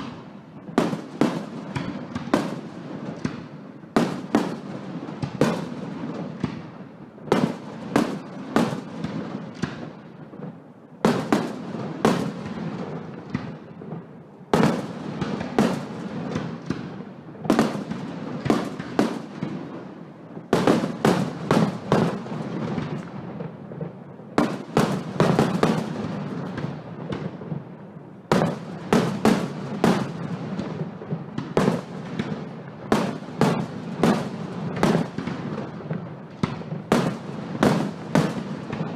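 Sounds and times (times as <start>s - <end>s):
firework bangs: 0.0s - 38.9s.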